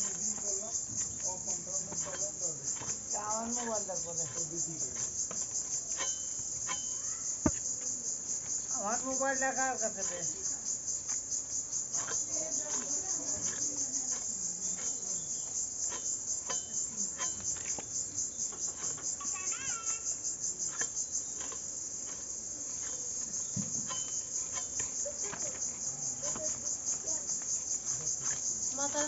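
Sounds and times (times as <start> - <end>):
insects shrilling: 0.0 - 29.0.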